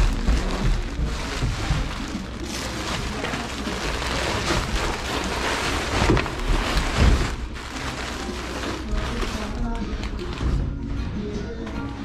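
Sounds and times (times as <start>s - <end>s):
dull thumps: 0.0s - 11.2s
plastic duct rustling and crinkling: 0.0s - 12.0s.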